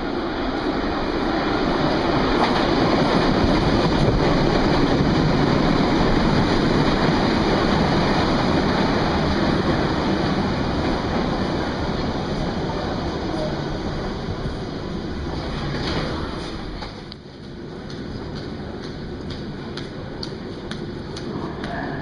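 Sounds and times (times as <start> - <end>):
underground train arriving: 0.0 - 22.0.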